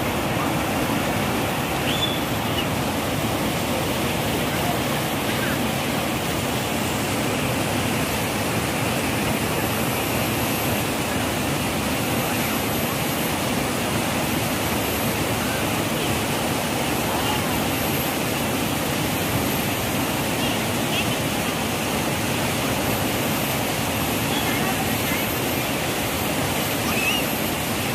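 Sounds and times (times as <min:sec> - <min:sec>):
river rushing through rapids: 0:00.0 - 0:27.9.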